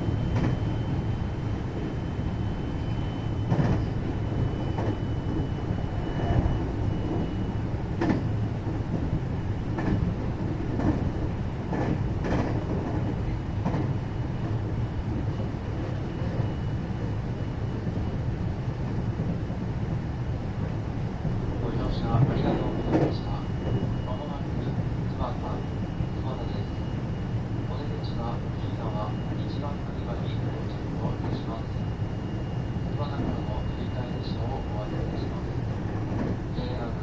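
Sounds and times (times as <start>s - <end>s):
train interior rumble: 0.0s - 37.0s.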